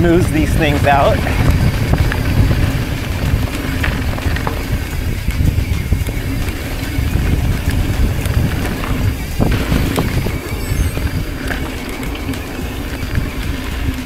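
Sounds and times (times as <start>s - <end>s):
bike clicks and rattles: 0.0s - 14.0s
tyres on dirt: 0.0s - 14.0s
wind noise on microphone: 0.0s - 14.0s.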